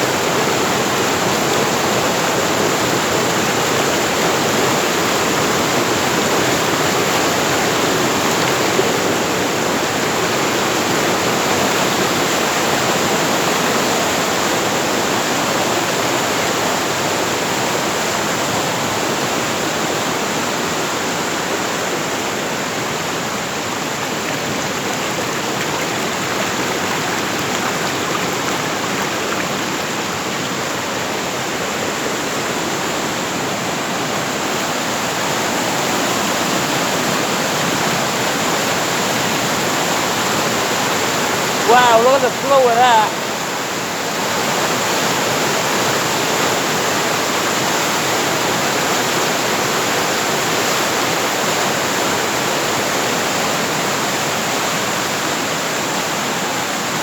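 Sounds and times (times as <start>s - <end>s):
fast-flowing water rushing: 0.0s - 57.0s.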